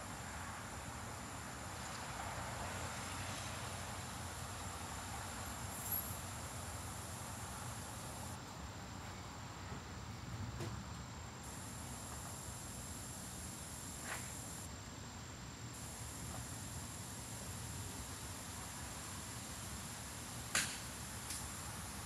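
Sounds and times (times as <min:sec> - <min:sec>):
insects buzzing: 0:00.1 - 0:10.2, 0:10.8 - 0:22.0.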